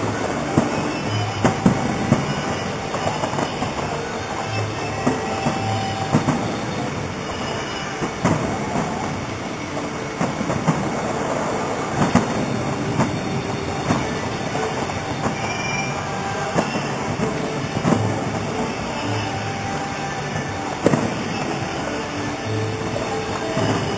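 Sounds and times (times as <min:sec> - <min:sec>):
fireworks crackling: 0:00.0 - 0:23.9.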